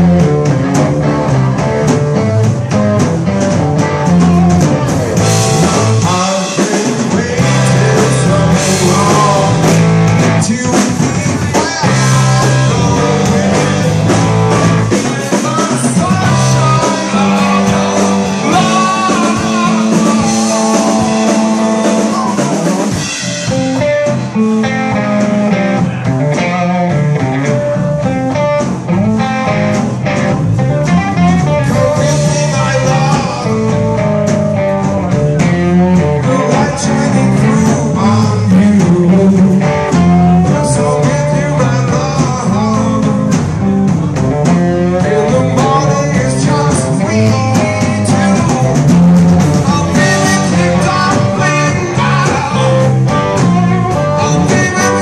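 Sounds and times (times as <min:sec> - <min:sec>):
bass guitar: 0:00.0 - 0:55.0
drum kit: 0:00.0 - 0:55.0
electric guitars: 0:00.0 - 0:55.0
person singing: 0:02.1 - 0:27.6, 0:30.9 - 0:43.5, 0:44.4 - 0:55.0.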